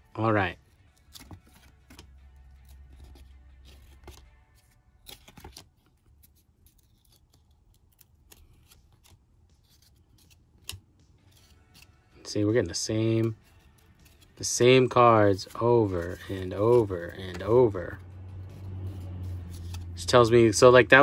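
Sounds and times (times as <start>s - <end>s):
paper cards flicking and sliding: 1.0s - 11.9s, 13.2s - 20.2s.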